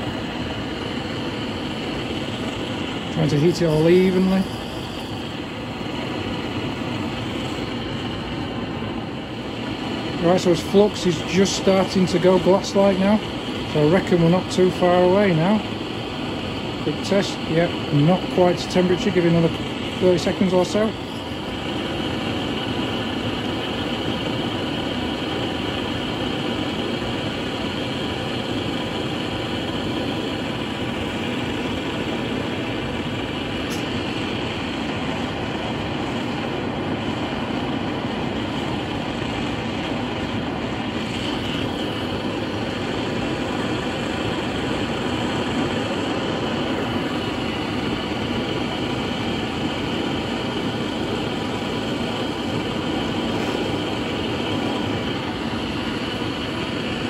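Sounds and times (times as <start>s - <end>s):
torch flame rushing: 0.0s - 57.0s.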